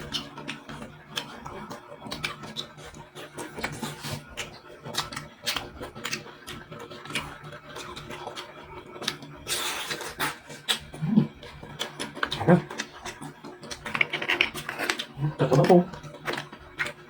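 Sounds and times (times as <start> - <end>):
wet chewing and lip smacks: 0.0 - 17.0.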